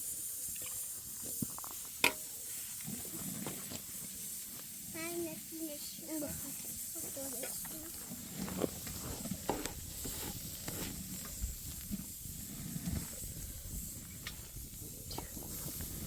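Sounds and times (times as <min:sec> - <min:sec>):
steady sizzling hiss: 0:00.0 - 0:16.0.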